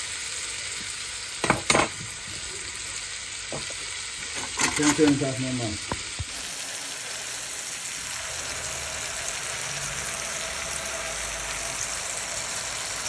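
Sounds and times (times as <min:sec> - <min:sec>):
sizzling hiss: 0:00.0 - 0:13.0
water pouring into pan: 0:00.0 - 0:13.0.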